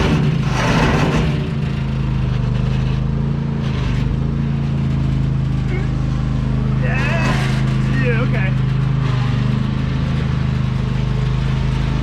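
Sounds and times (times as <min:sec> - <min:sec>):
metal clatter: 0:00.0 - 0:05.7, 0:06.9 - 0:11.0
riding mower engine running: 0:00.0 - 0:12.0.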